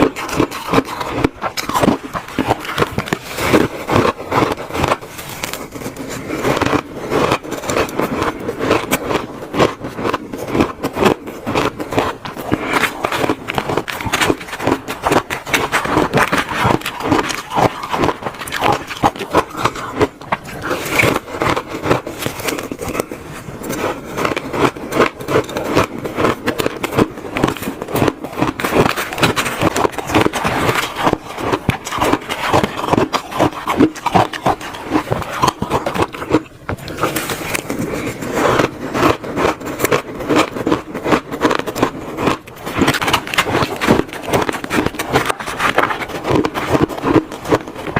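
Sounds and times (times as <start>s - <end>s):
chewing crunchy ice: 0.0s - 47.9s.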